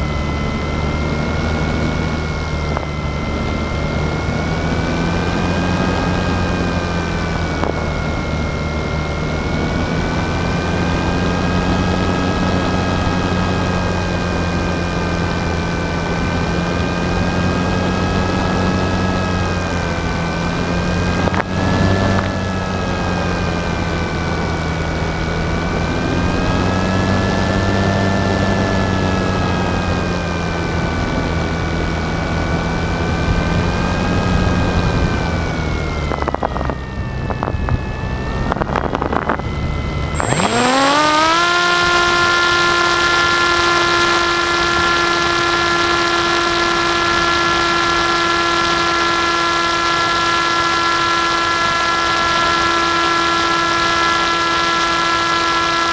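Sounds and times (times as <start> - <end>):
model aircraft motor whine: 0.0 - 55.9.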